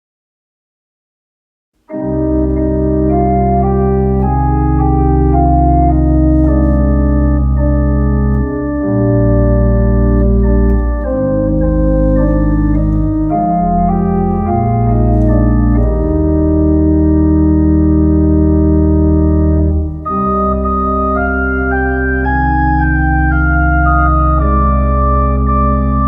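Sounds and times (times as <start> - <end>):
organ playing sustained chords: 1.9 - 26.0.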